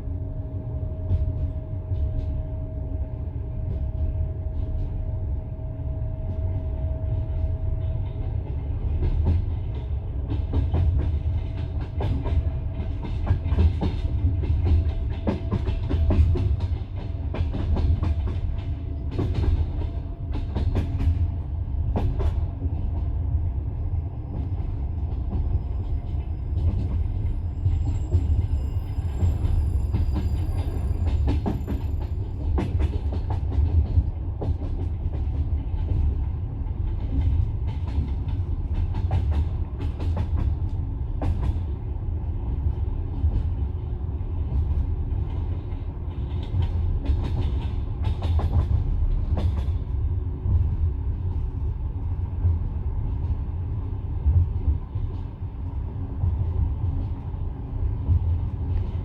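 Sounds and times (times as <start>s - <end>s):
train carriage rumbling: 0.0s - 59.0s.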